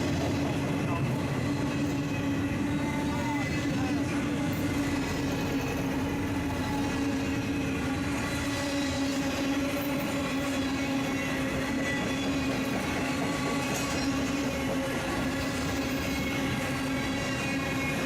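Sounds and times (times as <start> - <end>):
freight train passing: 0.0 - 18.0.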